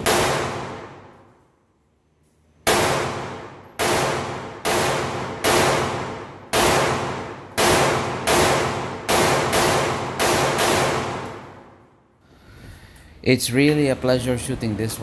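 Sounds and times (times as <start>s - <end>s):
rifle shots echoing indoors: 0.0s - 12.2s.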